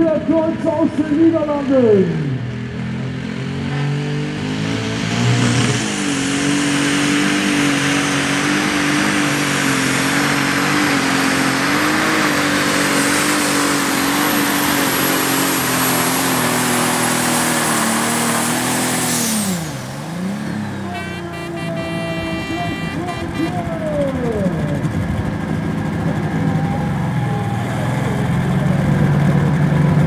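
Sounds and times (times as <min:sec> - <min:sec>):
tractor engine revving: 0:00.0 - 0:30.0.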